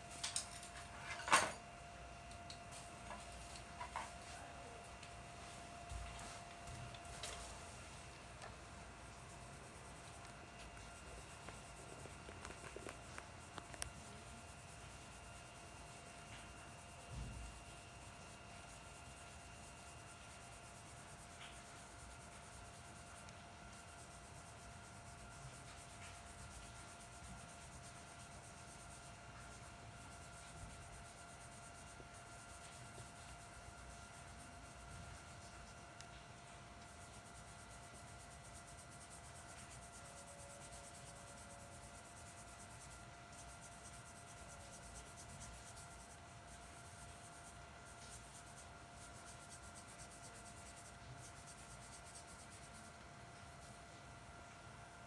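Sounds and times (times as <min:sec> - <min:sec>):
faint high whine: 0:00.0 - 0:55.0
brush rubbing on paper: 0:05.4 - 0:08.1, 0:09.0 - 0:36.2, 0:36.8 - 0:54.0.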